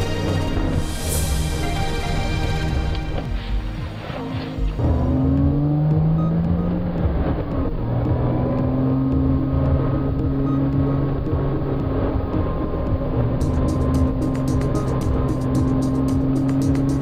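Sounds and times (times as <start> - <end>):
road noise: 0.0 - 17.0
car engine pulling: 2.1 - 17.0.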